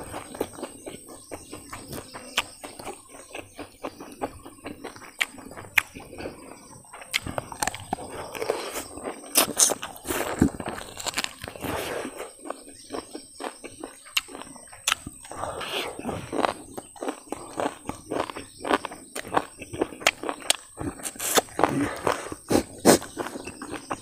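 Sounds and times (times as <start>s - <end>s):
wet chewing: 0.0s - 24.0s.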